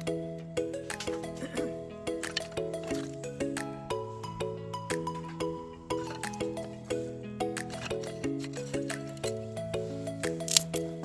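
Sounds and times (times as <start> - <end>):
background music with chords: 0.0 - 11.0.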